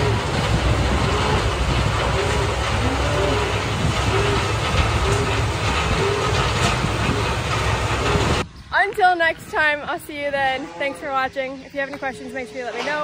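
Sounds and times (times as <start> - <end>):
tractor engine drone: 0.0 - 13.0.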